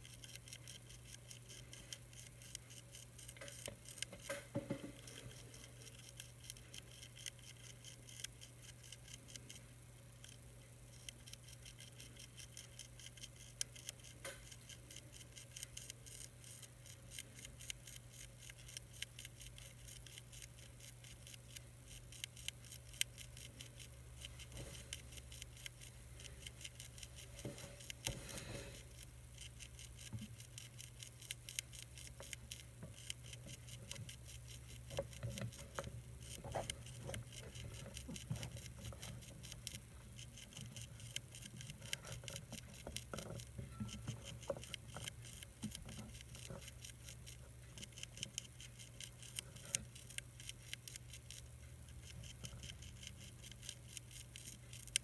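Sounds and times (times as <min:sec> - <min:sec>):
caterpillar chewing leaf clicks: 0:00.0 - 0:09.6, 0:10.2 - 0:28.2, 0:28.8 - 0:55.0
low steady hum: 0:00.0 - 0:55.0.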